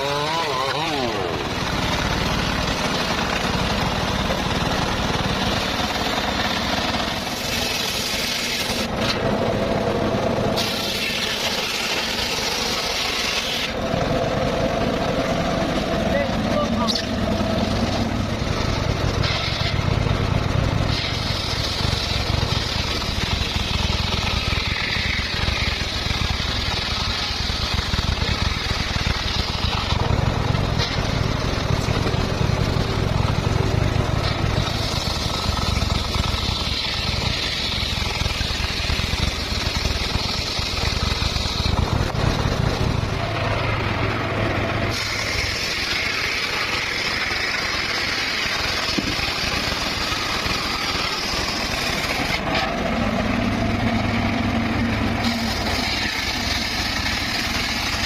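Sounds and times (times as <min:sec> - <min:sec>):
circular saw running: 0:00.0 - 0:58.0
saw blade cutting whine: 0:00.0 - 0:58.0.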